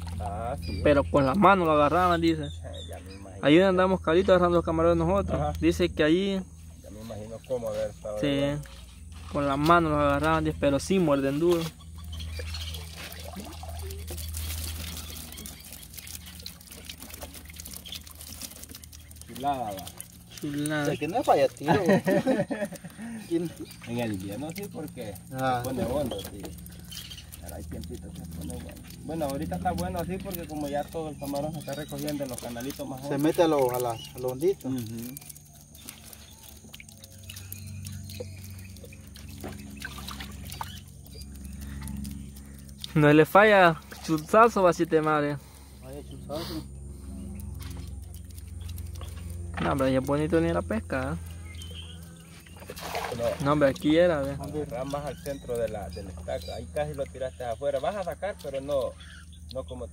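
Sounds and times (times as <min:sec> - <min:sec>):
low hum: 0:00.0 - 0:59.9
water trickling and dripping: 0:00.0 - 0:59.9.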